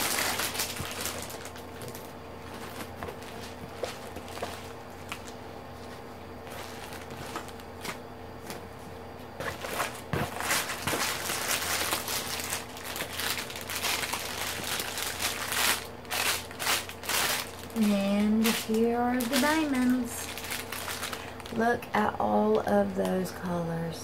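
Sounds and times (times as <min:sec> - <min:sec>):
plastic packaging crinkling: 0:00.0 - 0:08.0, 0:09.4 - 0:21.9.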